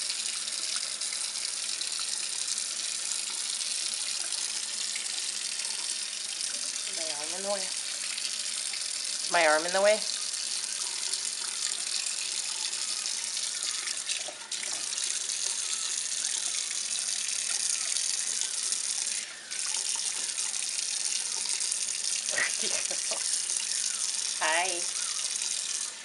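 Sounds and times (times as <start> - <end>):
faucet water splashing: 0.0 - 26.0.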